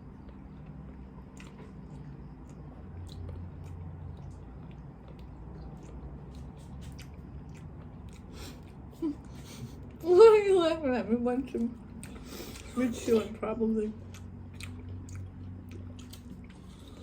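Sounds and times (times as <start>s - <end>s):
person chewing food: 0.0s - 10.0s, 11.8s - 13.4s, 14.0s - 17.0s.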